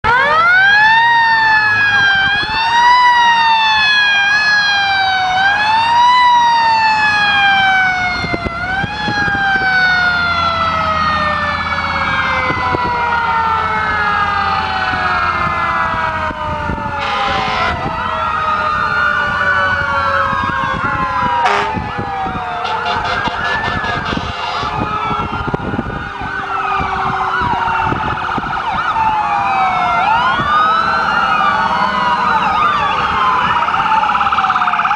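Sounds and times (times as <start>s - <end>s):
fire truck sirens wailing: 0.0s - 34.9s.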